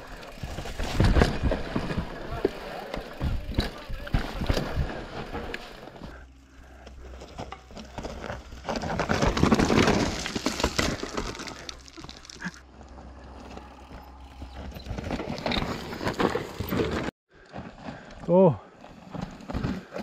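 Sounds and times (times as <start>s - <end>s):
bike rattling and knocking: 0.0s - 12.8s, 13.5s - 18.1s
tyres crunching over stones: 0.0s - 18.2s.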